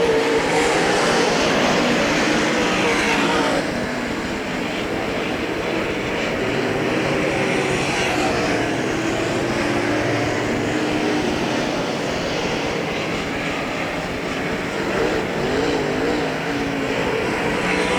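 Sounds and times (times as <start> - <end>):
race car engines at speed: 0.0 - 17.9.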